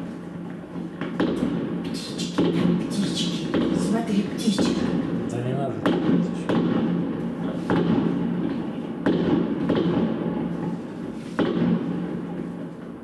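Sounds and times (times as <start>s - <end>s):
crackling rumble: 0.0s - 13.0s
fireworks bangs: 0.6s - 13.0s.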